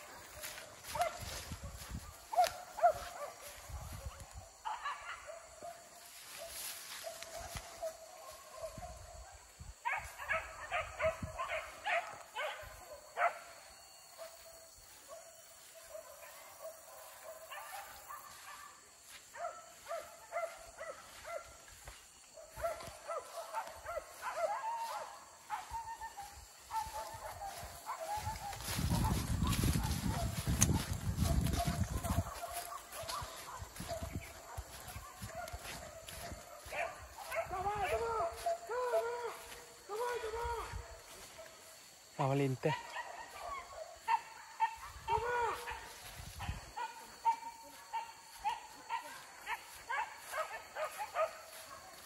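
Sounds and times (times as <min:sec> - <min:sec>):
dogs yelping barks: 0:00.0 - 0:21.6, 0:22.3 - 0:41.7, 0:42.6 - 0:52.0.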